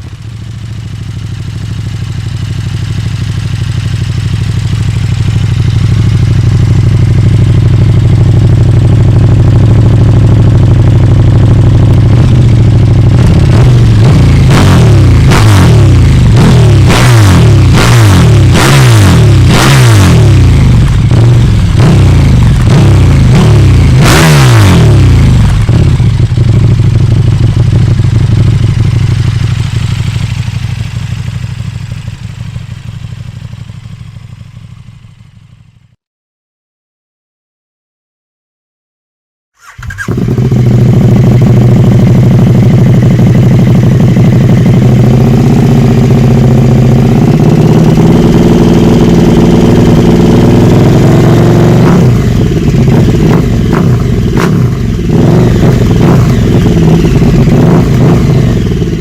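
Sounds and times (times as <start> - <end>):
motorcycle engine idling and revving: 0.0 - 36.0, 39.6 - 59.0.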